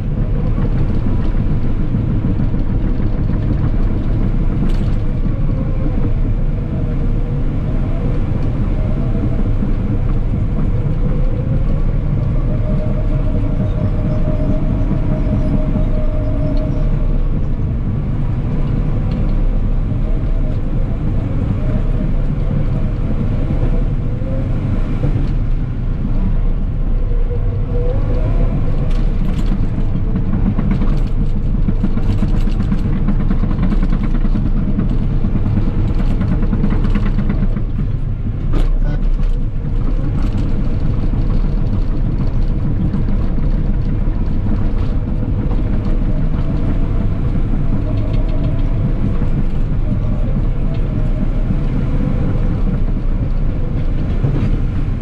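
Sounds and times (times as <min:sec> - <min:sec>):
wavering whine: 0:00.0 - 0:54.0
diesel engine running under load: 0:00.0 - 0:55.0.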